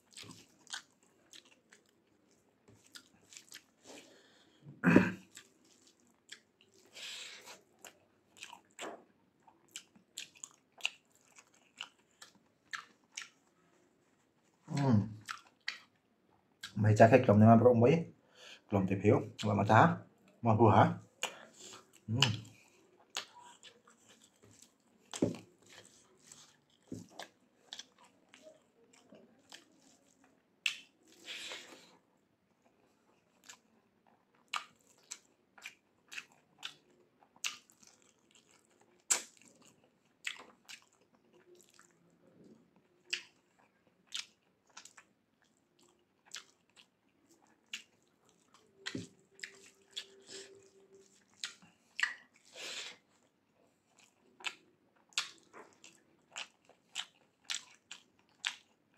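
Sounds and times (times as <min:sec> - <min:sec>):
wet chewing and lip-smacking: 0:00.0 - 0:04.1, 0:05.2 - 0:13.6, 0:15.2 - 0:16.8, 0:21.2 - 0:31.9, 0:32.6 - 0:58.8.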